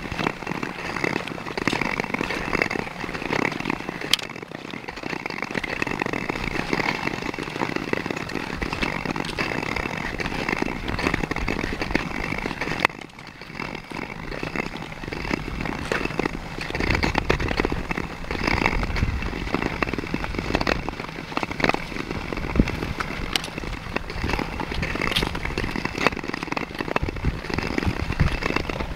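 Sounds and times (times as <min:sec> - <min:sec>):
ice skates scraping on ice: 0:00.0 - 0:28.9.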